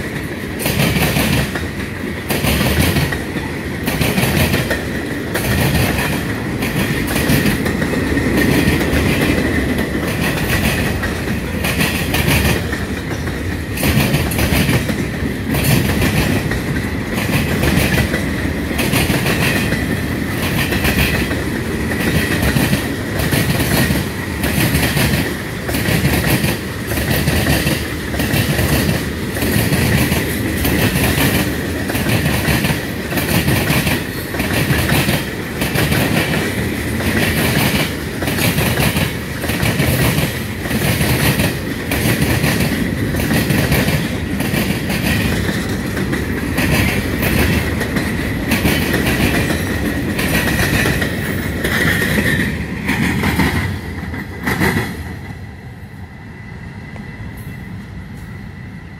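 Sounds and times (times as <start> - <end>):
train wheels clicking over rail joints: 0.0 - 55.6
freight train rumble: 0.0 - 58.9.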